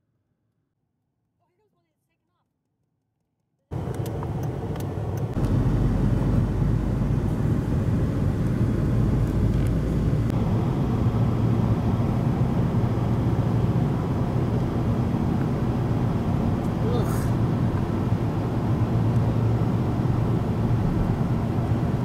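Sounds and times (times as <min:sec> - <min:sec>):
jet engines rumbling: 0:03.7 - 0:22.0
road traffic: 0:03.7 - 0:22.0.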